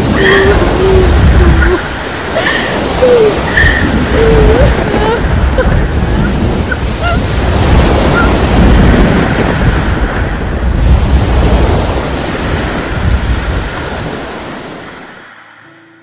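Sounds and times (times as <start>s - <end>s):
rushing waves: 0.0s - 16.0s
wind: 0.0s - 16.0s.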